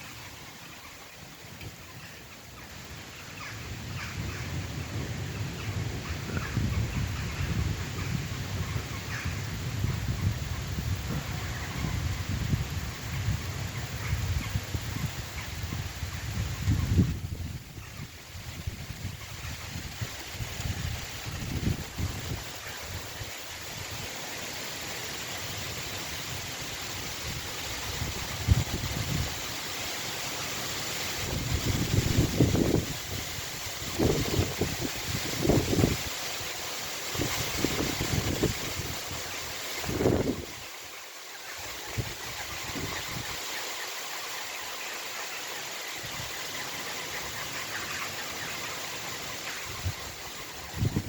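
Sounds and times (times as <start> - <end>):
rain hissing: 0.0 - 3.8, 4.6 - 51.0.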